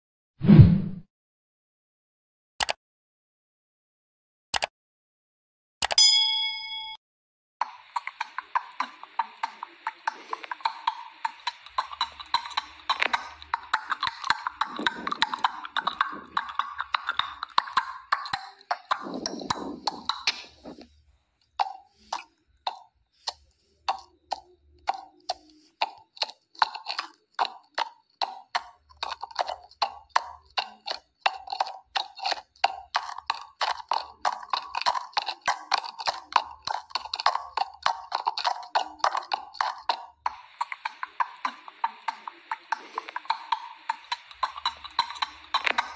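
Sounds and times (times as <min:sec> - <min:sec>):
horse hoofbeats clip-clopping: 0:07.6 - 0:20.9, 0:21.6 - 0:45.9.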